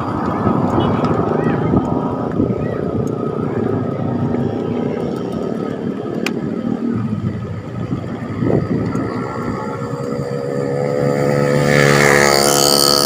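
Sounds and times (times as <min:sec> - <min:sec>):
traffic engines droning: 0:00.0 - 0:13.0
wind on microphone: 0:00.0 - 0:13.0.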